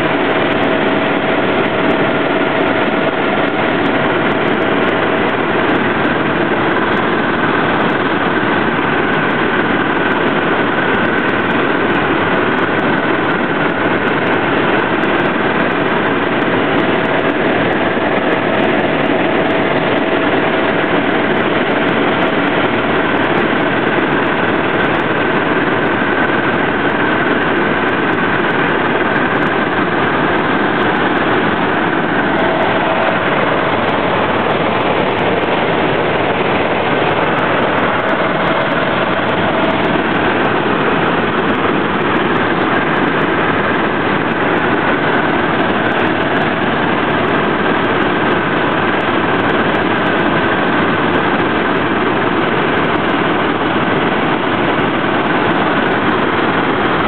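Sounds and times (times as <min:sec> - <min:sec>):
helicopter engine and rotor drone: 0:00.0 - 0:57.0
thin steady whine: 0:00.0 - 0:57.0.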